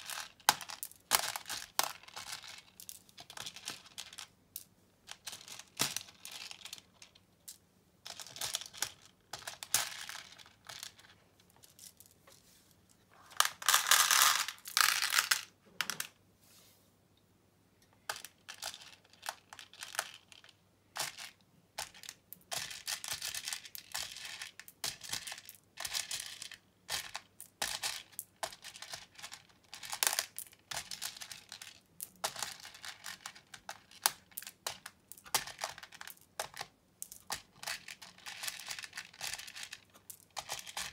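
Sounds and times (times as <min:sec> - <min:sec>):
plastic beads clicking and rattling: 0:00.0 - 0:12.2, 0:13.3 - 0:16.1, 0:18.1 - 0:40.9.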